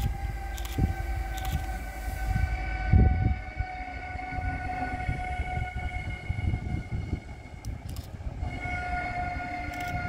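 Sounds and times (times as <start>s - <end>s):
steady high train tone: 0.0s - 10.0s.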